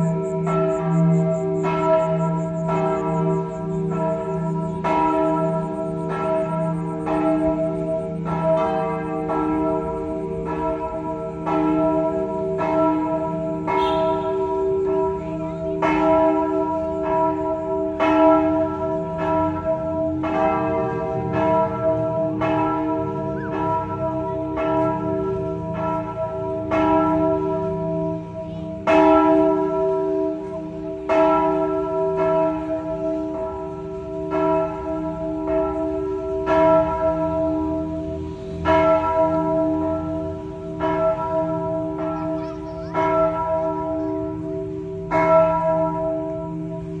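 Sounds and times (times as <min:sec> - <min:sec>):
church bells ringing: 0:00.0 - 0:47.0.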